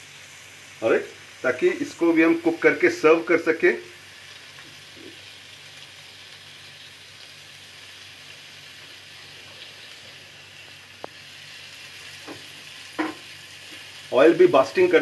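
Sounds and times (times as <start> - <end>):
skewers sizzling in hot oil: 0.0 - 15.0.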